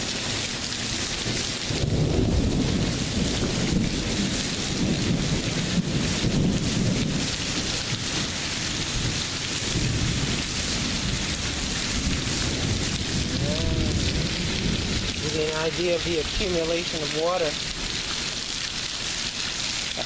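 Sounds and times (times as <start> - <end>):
heavy rain pouring: 0.0 - 20.0
thunder rumbling: 1.6 - 18.4.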